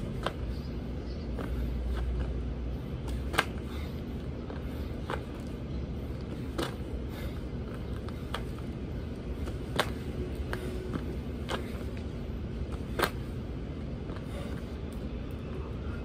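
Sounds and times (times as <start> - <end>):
hands and shoes tapping pavement: 0.0 - 15.6
low background rumble: 0.0 - 16.0.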